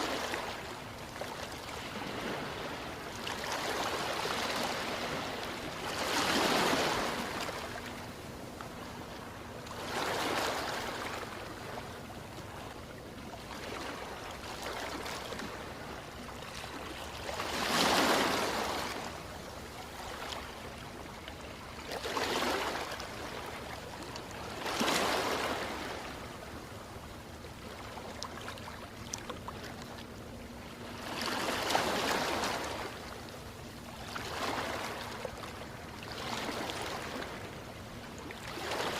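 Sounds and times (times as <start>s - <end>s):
background surf wash: 0.0s - 38.9s
ocean waves breaking: 0.0s - 38.9s.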